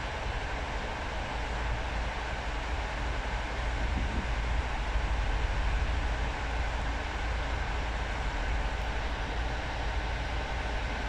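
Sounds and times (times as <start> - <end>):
train rumbling inside carriage: 0.0 - 11.0.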